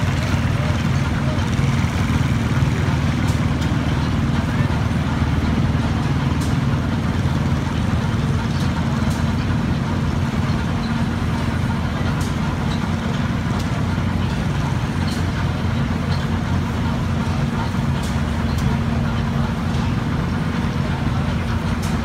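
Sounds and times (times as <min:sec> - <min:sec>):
sawmill machinery hum: 0:00.0 - 0:22.0.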